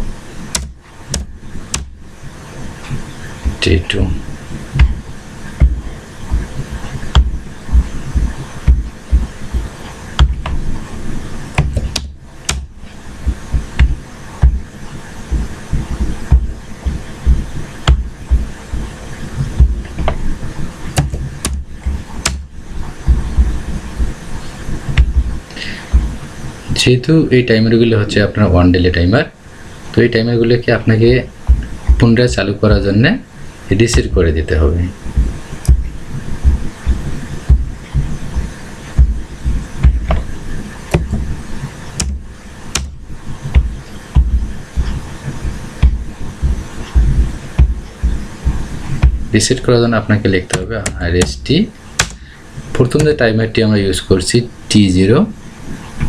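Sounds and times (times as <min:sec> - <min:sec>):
low uneven thumping: 0:00.0 - 0:26.8, 0:30.7 - 0:53.5.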